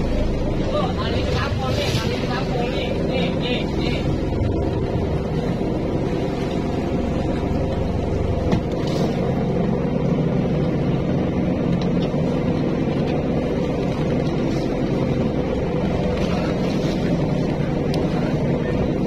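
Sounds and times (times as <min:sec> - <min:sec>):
boat engine droning: 0:00.0 - 0:19.0
water washing along hull: 0:00.0 - 0:19.0.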